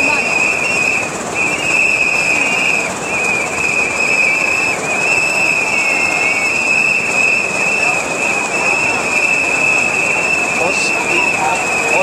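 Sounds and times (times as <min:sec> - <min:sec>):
crowd noise: 0:00.0 - 0:12.0
second lower whistle: 0:00.0 - 0:12.0
shrill whistle blasts: 0:00.0 - 0:12.0.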